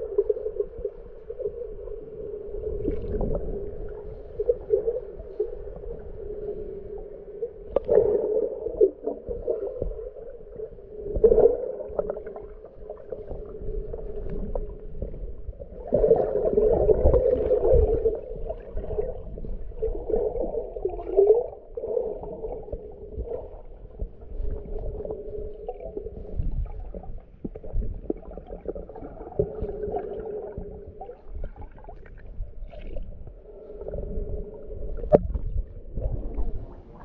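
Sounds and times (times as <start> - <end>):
muffled underwater hum: 0.0 - 37.0.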